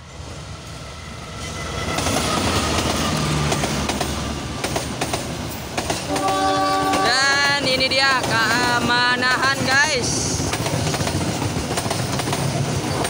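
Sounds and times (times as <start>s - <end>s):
diesel train passing: 0.0s - 13.0s
train wheels clacking over rail joints: 1.9s - 13.0s.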